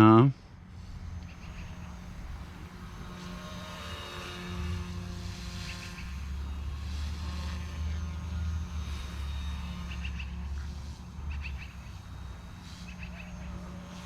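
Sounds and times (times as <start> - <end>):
helicopter rotor hum: 0.0 - 14.0
high motor whine: 0.0 - 14.0.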